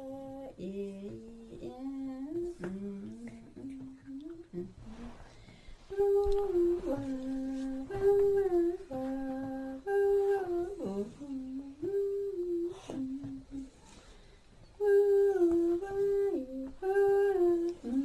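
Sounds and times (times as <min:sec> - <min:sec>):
person humming a melody: 0:00.0 - 0:05.2, 0:05.9 - 0:13.8, 0:14.8 - 0:18.0.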